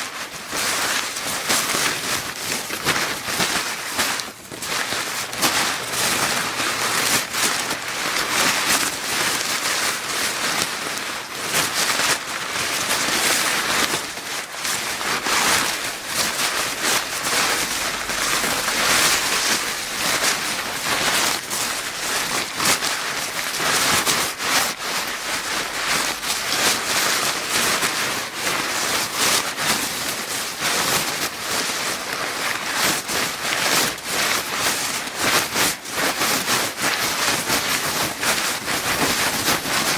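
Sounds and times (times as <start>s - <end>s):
paper bag crinkling: 0.0s - 39.9s.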